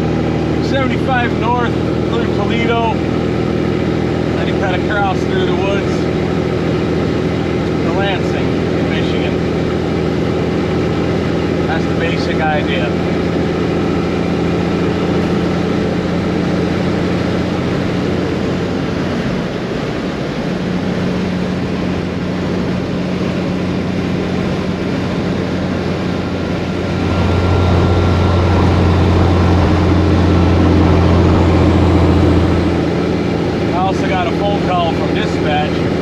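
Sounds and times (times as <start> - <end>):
truck diesel engine droning: 0.0 - 36.0.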